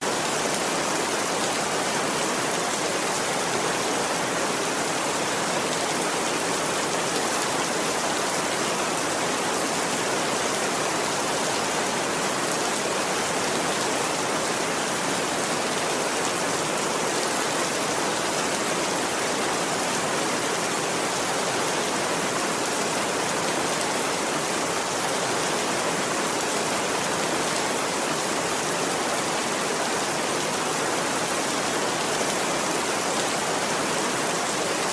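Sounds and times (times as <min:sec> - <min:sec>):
steady rain hiss: 0:00.0 - 0:34.9.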